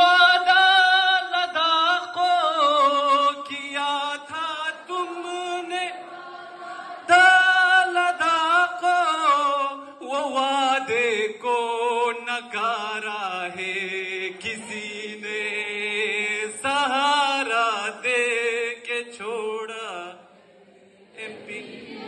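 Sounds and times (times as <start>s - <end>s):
man singing unaccompanied: 0.0s - 6.0s, 7.0s - 20.2s.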